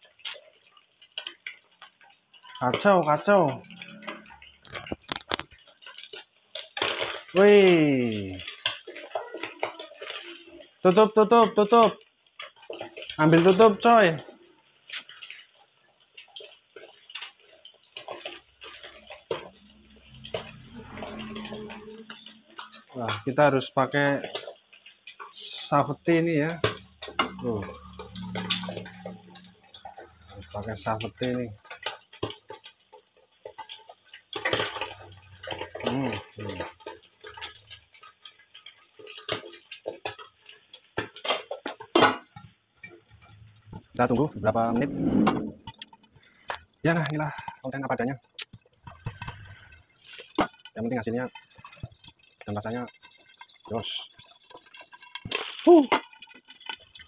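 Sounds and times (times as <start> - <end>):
fish frying in oil: 0.0 - 57.0
oil crackling and popping: 0.0 - 57.0.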